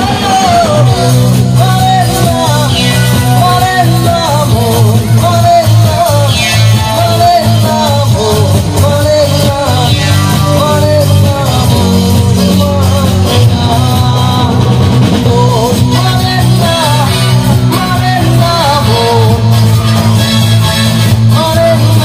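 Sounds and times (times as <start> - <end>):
band with electric guitar and bass: 0.0 - 22.0
man singing through pa: 0.0 - 22.0.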